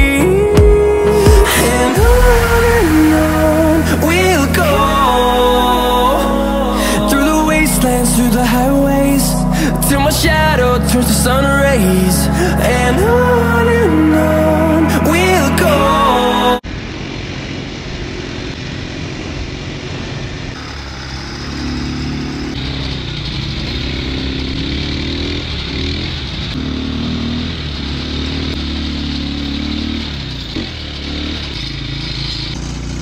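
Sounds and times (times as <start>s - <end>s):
quad bike engine running: 0.0s - 14.0s, 16.6s - 33.0s.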